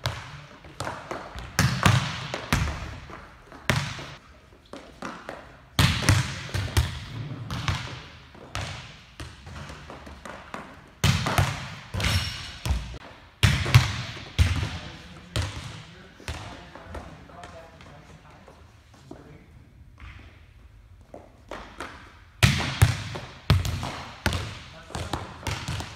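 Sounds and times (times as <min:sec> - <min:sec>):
volleyballs hit and bouncing: 0:00.0 - 0:18.4, 0:19.9 - 0:25.9.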